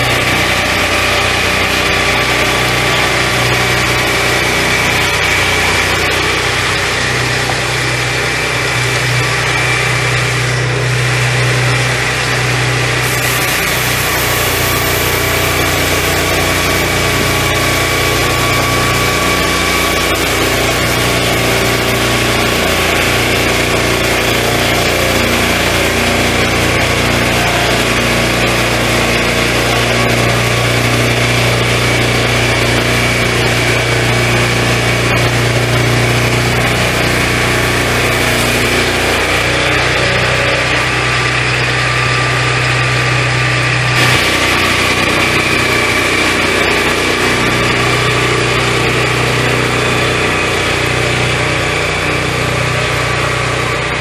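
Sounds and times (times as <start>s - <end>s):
circular blade sawing timber: 0.0s - 54.0s
sawmill petrol engine running: 0.0s - 54.0s.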